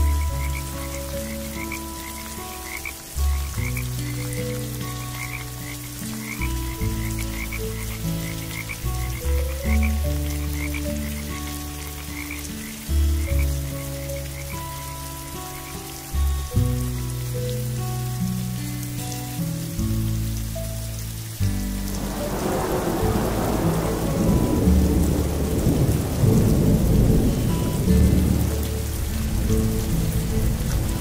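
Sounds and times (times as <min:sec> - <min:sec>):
frogs croaking: 0:00.0 - 0:17.7, 0:21.8 - 0:31.0
rain hissing: 0:00.0 - 0:31.0.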